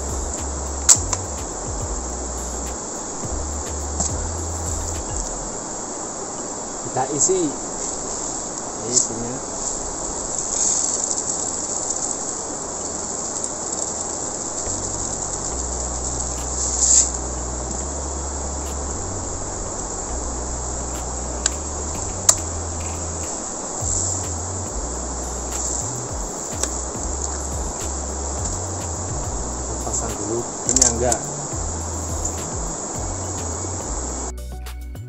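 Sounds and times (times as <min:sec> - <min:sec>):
high-pitched insect chorus: 0:00.0 - 0:34.4.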